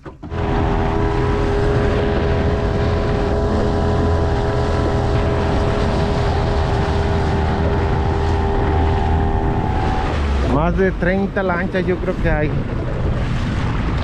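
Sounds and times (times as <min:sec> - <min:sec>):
outboard motor running: 0:00.0 - 0:14.0
wind and water rumble: 0:00.0 - 0:14.0.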